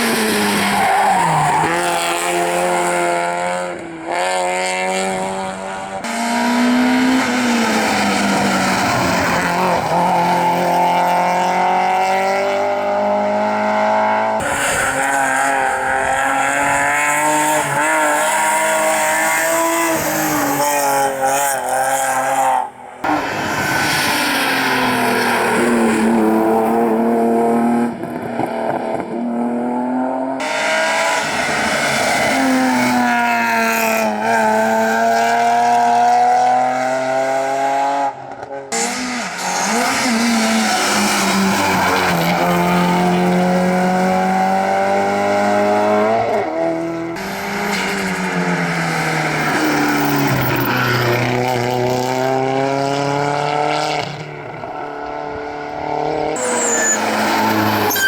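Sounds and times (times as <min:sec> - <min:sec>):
rally cars revving and passing: 0:00.0 - 0:58.0.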